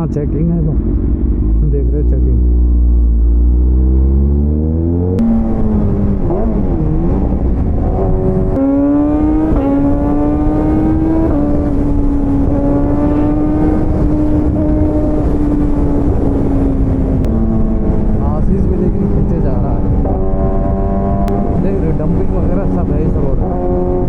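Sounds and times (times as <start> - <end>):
motorcycle engine cruising: 0.0 - 24.0
wind rush on microphone: 4.6 - 24.0.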